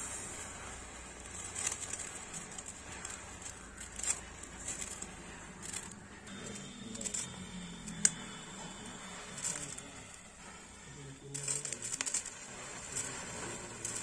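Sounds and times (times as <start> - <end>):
matchsticks crackling: 0.0 - 14.0.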